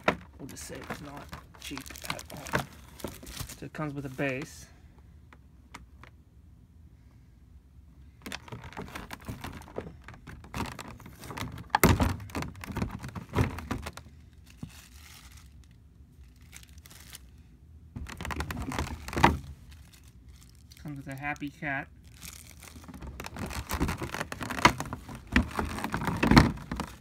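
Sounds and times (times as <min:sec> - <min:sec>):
plastic packaging crinkling: 0:00.0 - 0:04.5, 0:08.3 - 0:17.3, 0:18.0 - 0:27.0.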